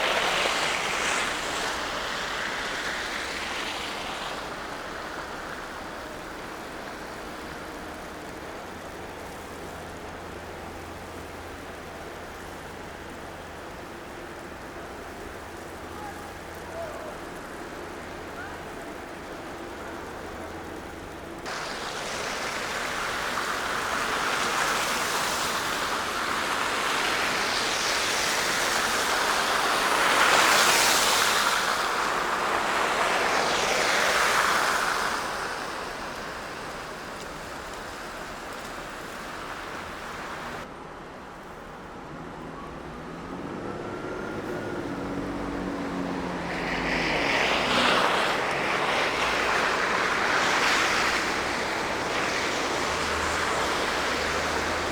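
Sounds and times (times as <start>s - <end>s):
tyre hiss of passing traffic: 0.0s - 54.9s.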